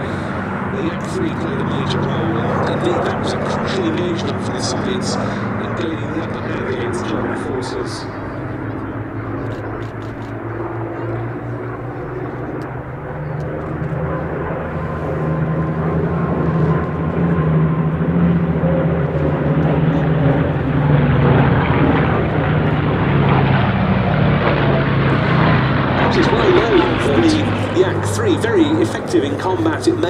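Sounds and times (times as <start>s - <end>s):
propeller plane flying past: 0.0s - 30.0s.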